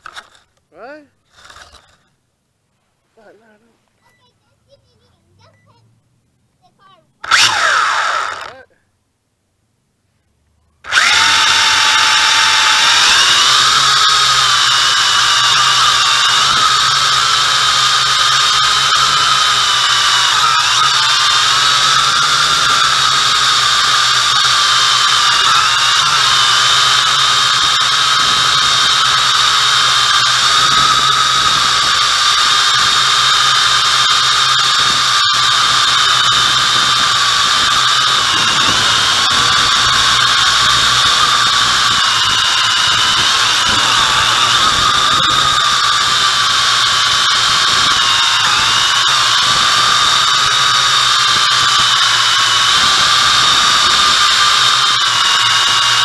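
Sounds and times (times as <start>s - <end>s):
drone propellers whining: 7.2s - 8.7s, 10.8s - 56.0s.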